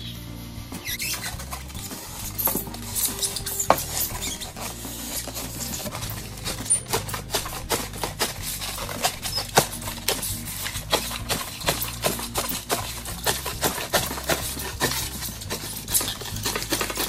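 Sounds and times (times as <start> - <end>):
knife sawing through foam board: 1.0 - 17.0.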